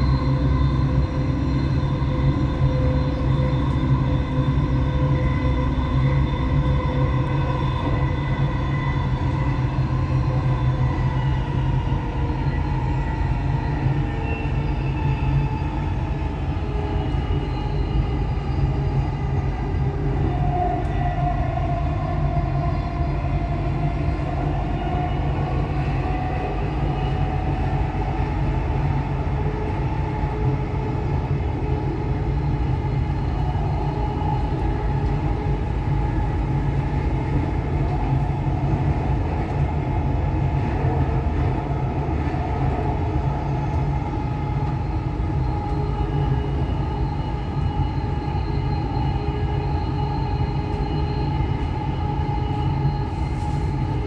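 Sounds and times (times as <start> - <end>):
train rumbling: 0.0 - 54.0
train whine: 0.0 - 54.0.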